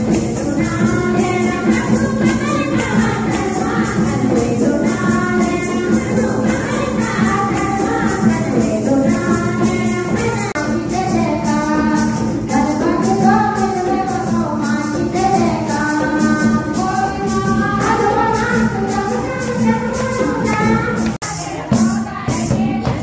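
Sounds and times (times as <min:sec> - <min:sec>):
jingling hand percussion: 0:00.0 - 0:23.0
women singing a hymn: 0:00.0 - 0:23.0.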